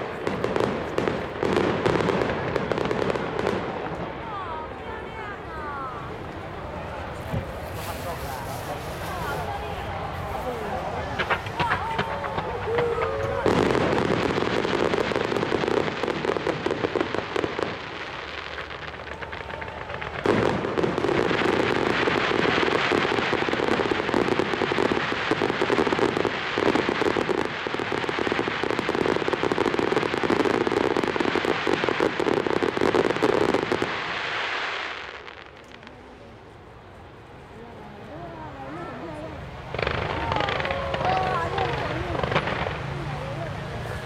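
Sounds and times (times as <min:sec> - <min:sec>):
fireworks popping and banging: 0:00.0 - 0:04.3, 0:07.2 - 0:36.2, 0:39.2 - 0:44.0.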